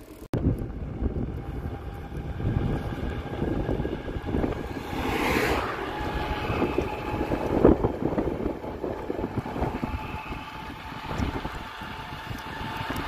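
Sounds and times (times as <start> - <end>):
wind buffeting microphone: 0.4 - 13.0.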